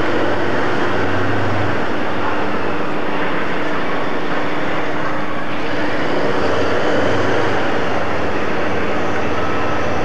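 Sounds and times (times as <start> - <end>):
diesel locomotive idling: 0.0 - 10.0.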